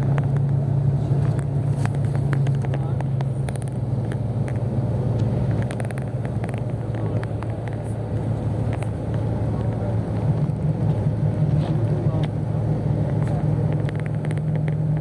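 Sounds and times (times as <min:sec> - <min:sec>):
vehicle engine and tyre drone: 0:00.0 - 0:15.0.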